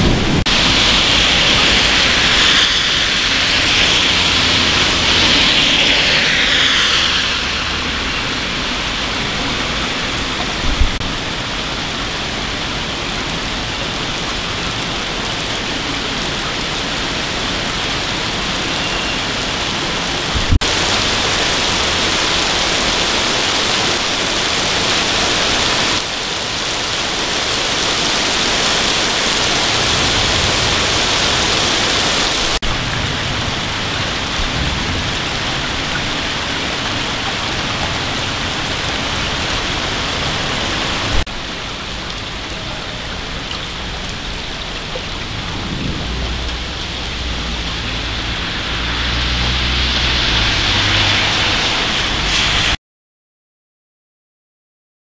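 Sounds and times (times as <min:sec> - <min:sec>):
car tyres swishing on wet road: 0:00.0 - 0:52.8
heavy rain on street: 0:00.0 - 0:52.8.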